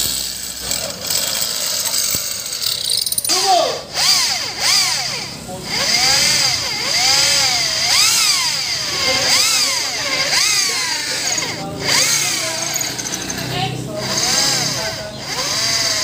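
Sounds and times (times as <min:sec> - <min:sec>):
electric drill boring: 0:00.0 - 0:16.0.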